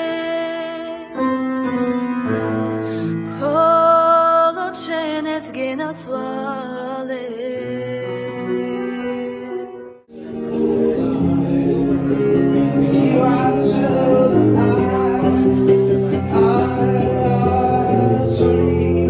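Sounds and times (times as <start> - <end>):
song with instruments and voice: 0.0 - 19.0.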